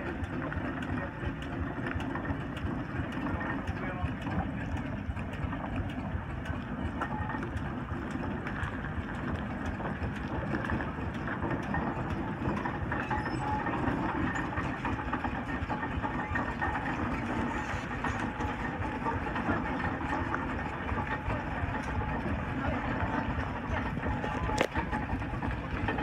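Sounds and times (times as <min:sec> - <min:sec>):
continuous rumble: 0:00.0 - 0:26.0
steam engine clanking: 0:00.0 - 0:26.0.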